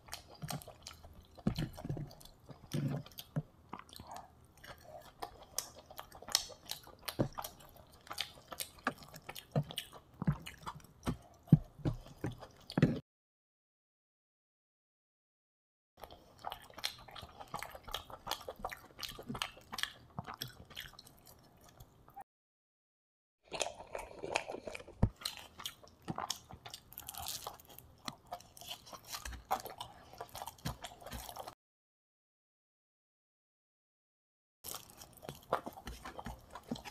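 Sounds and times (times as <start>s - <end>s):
crunchy chewing: 0.0s - 13.0s, 16.0s - 22.2s, 23.5s - 31.6s, 34.7s - 36.9s.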